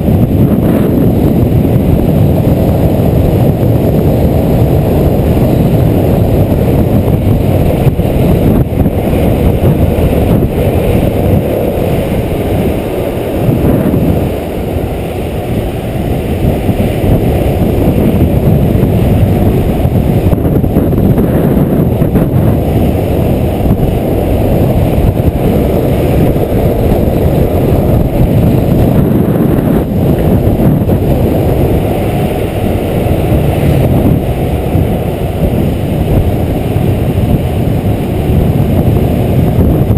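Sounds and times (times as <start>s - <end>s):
low road rumble: 0.0s - 39.9s
wind buffeting microphone: 0.0s - 39.9s.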